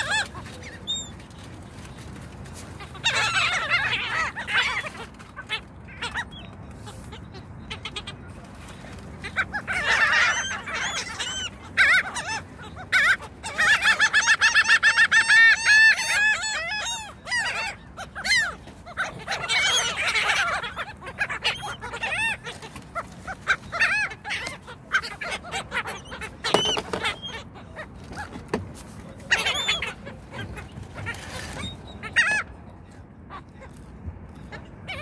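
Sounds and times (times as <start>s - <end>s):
gulls laughing calls: 0.0s - 35.0s.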